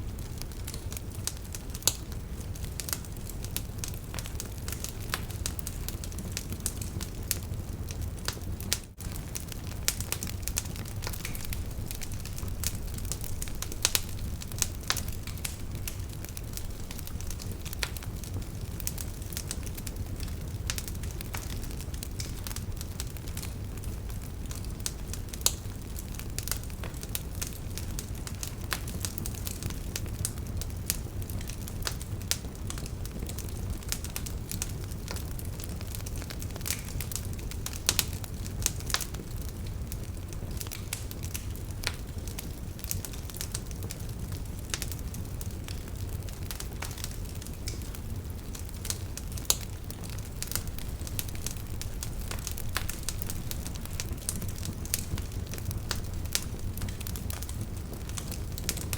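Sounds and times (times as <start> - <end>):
campfire rumbling: 0.0 - 58.9
fire pops and snaps: 0.1 - 58.9.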